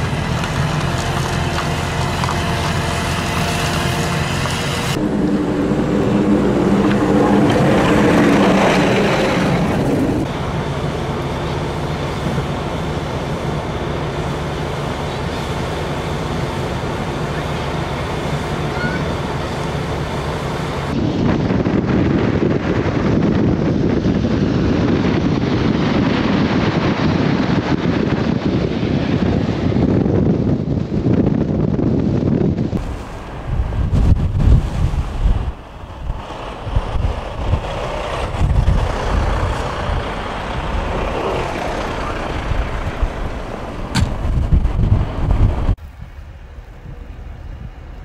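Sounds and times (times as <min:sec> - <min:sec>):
snowplow truck rumbling: 0:00.0 - 0:48.0
wind buffeting microphone: 0:00.0 - 0:48.0.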